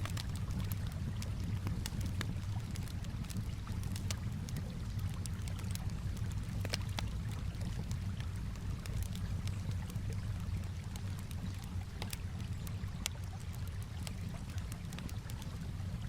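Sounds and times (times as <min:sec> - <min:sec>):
calm water lapping: 0:00.0 - 0:16.0
campfire crackling: 0:00.0 - 0:16.0.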